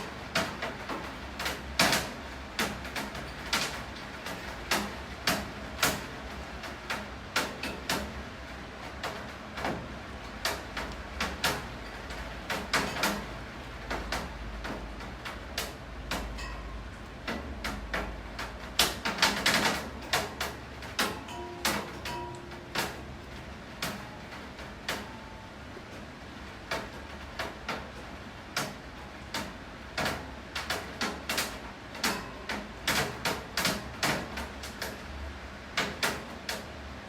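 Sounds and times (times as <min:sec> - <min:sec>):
raindrops tapping hard surface: 0:00.0 - 0:36.9.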